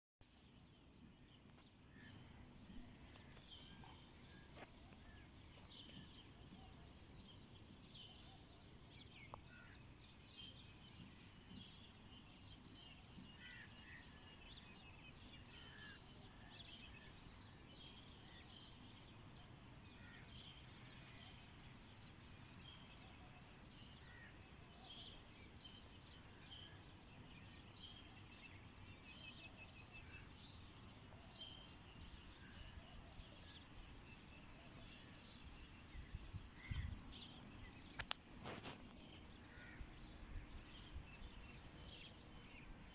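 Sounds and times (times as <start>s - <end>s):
low background noise: 0.2s - 42.9s
small birds chirping: 0.5s - 42.9s.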